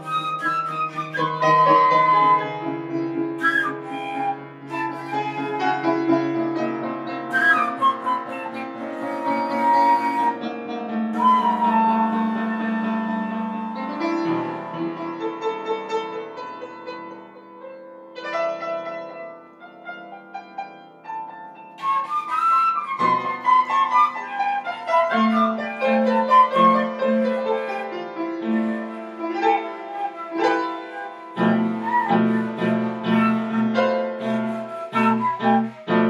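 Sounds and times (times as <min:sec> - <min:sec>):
flute melody: 0:00.0 - 0:15.2, 0:20.4 - 0:36.0
piano chords: 0:00.0 - 0:36.0.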